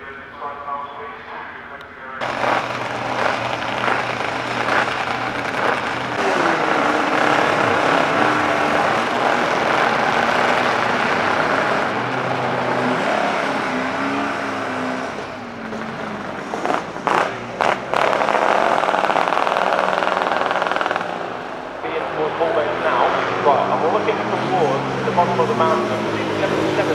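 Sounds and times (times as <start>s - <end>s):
racing sidecar engines passing: 1.8s - 26.9s.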